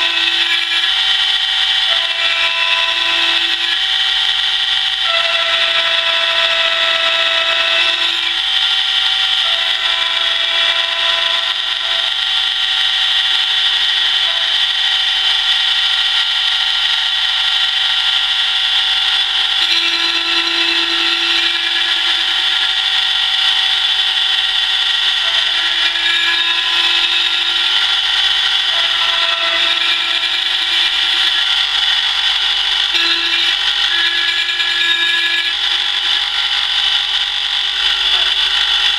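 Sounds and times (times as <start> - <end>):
key cutting machine whine: 0.0 - 38.9.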